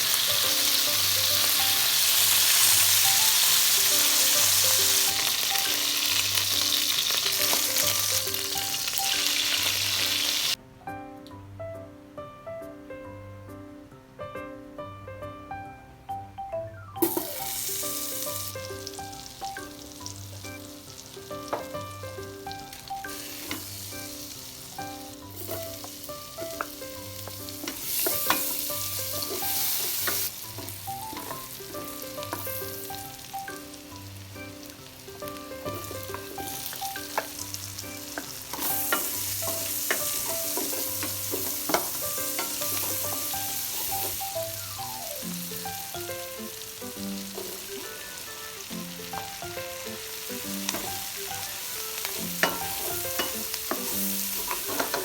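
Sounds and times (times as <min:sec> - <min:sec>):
food sizzling in a pan: 0:00.0 - 0:10.6, 0:17.0 - 0:55.0.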